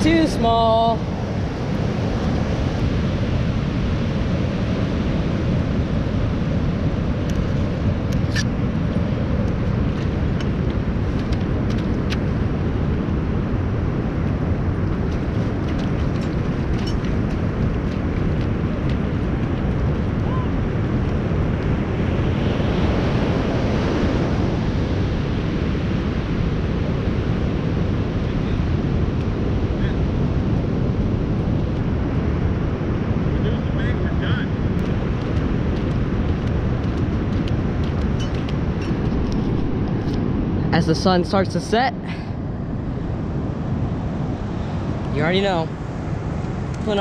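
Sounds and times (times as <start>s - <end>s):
ocean surf: 0.0s - 47.0s
wind buffeting microphone: 0.0s - 47.0s.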